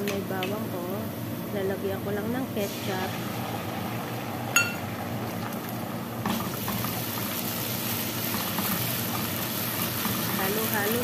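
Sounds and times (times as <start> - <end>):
oil sizzling in a frying pan: 2.0 - 11.0.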